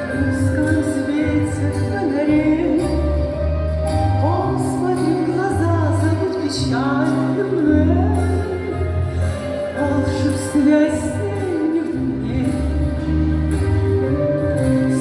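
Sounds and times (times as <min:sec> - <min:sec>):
pop song with singing: 0:00.0 - 0:15.0.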